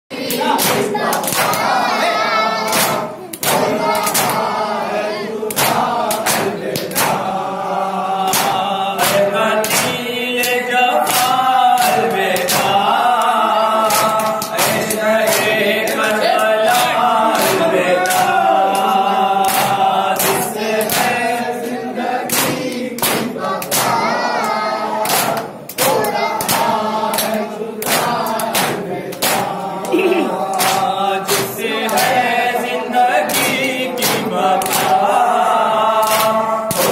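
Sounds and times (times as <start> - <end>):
men singing in unison: 0.1 - 36.9.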